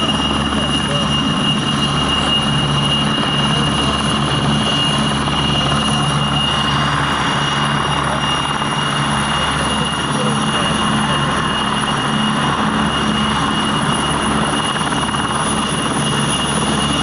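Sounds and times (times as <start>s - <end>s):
helicopter rotors and turbines: 0.0s - 17.0s
high turbine whine: 0.0s - 17.0s.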